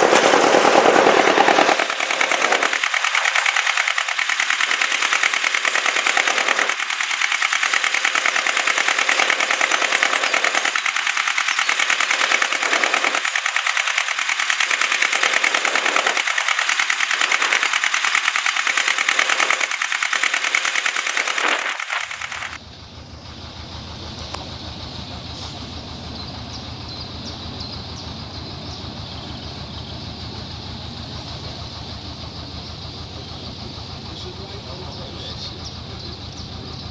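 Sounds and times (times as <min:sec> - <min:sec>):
diesel engine clattering: 0:00.0 - 0:36.9.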